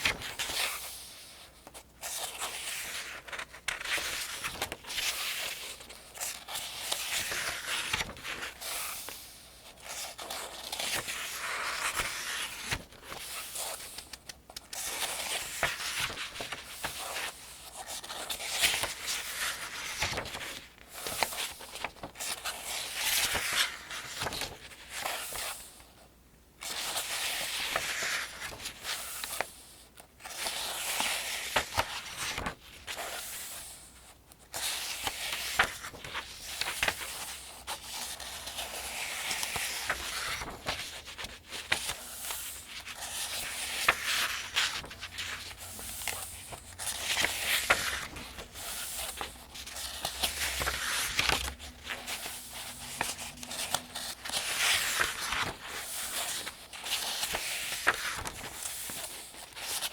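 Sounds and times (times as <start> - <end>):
pages turning: 0.0 - 25.7, 26.6 - 33.8, 34.5 - 59.9
paper rustling and crinkling: 0.0 - 25.9, 26.6 - 59.9.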